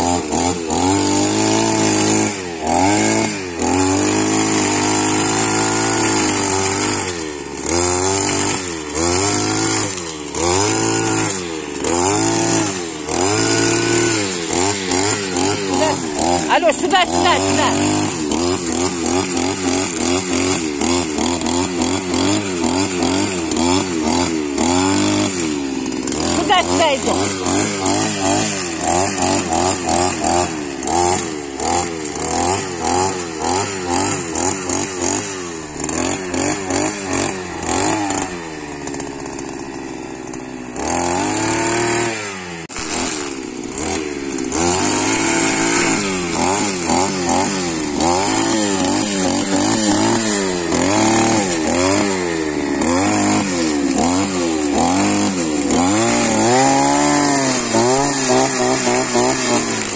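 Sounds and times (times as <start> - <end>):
brush cutter engine revving: 0.0 - 59.9.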